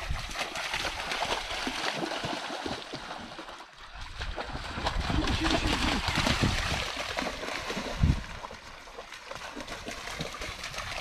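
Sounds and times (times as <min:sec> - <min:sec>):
dog splashing through water: 0:00.0 - 0:11.0.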